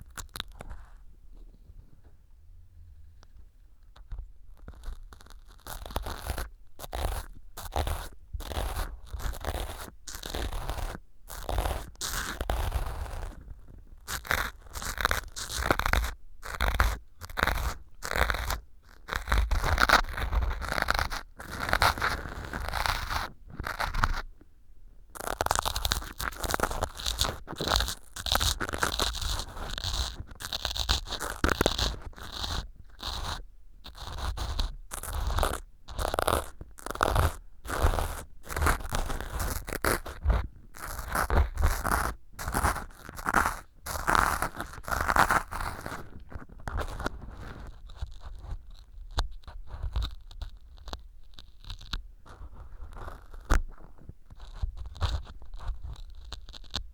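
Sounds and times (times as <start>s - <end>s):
pick scraping crumbly foam: 4.0s - 24.3s, 25.2s - 56.9s.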